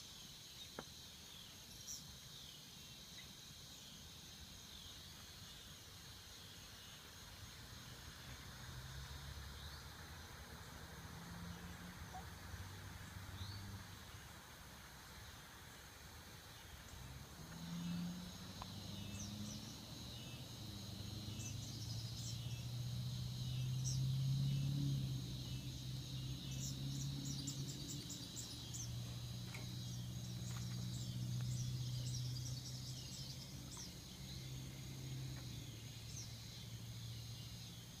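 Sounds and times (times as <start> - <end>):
insects buzzing: 0.0 - 38.0.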